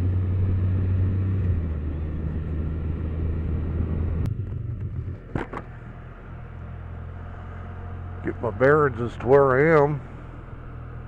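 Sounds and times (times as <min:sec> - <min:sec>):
engine running: 0:00.0 - 0:11.0
road and wind noise: 0:00.0 - 0:11.0.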